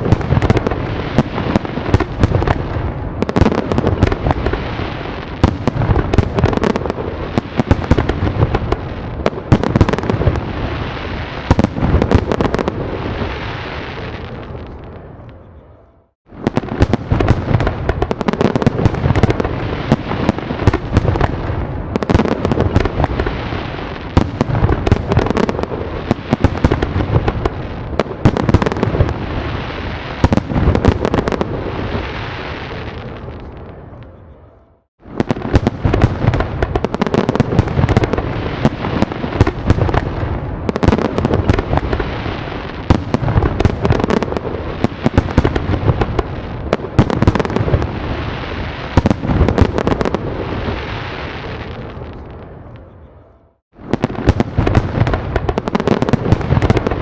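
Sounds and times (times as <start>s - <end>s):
fireworks explosions and crackling: 0.0s - 57.0s.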